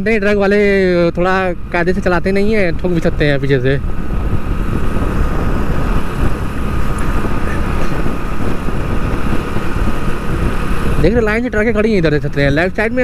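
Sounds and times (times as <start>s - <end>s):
motorcycle engine cruising: 0.0s - 13.0s
wind rushing on microphone: 0.0s - 13.0s.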